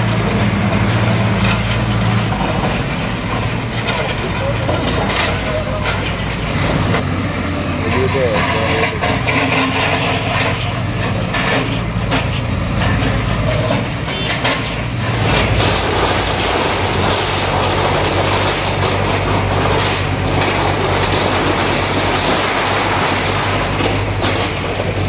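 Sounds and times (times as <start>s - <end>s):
metal sheeting and rubble crashing: 0.0s - 7.0s, 7.7s - 25.0s
diesel engines under load: 0.0s - 25.0s.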